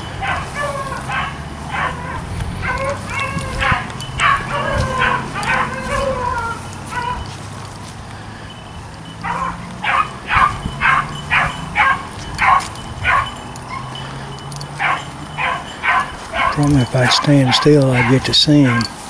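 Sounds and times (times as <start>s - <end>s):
dogs baying: 0.0s - 19.0s.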